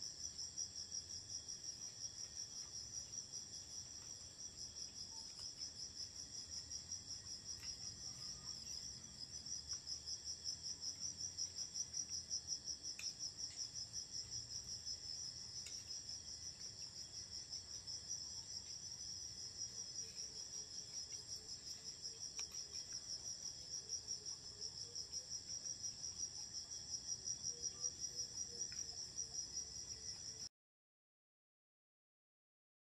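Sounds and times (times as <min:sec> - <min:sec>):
crickets chirping: 0:00.0 - 0:30.5.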